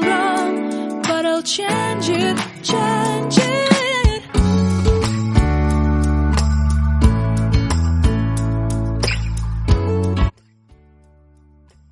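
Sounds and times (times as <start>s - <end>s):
background song with guitar: 0.0s - 11.9s.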